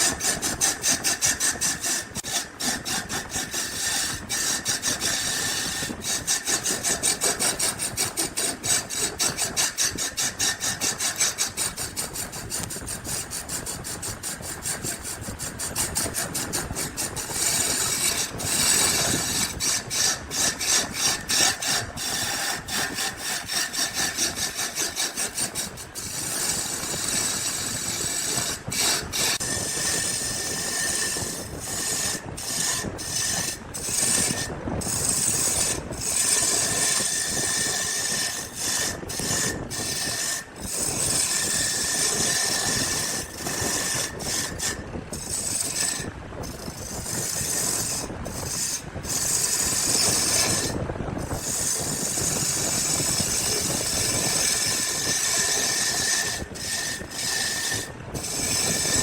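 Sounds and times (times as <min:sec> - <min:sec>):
power tool rasping on wood: 0:00.0 - 0:59.0.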